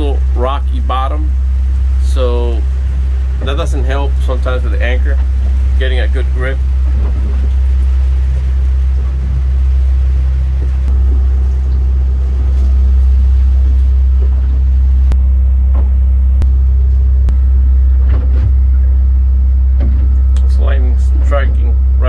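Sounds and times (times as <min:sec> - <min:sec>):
deep rumble: 0:00.0 - 0:22.0.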